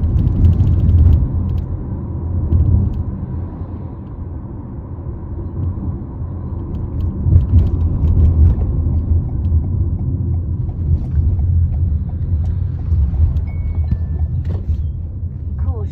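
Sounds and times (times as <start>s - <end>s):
road rumble inside car: 0.0s - 15.9s.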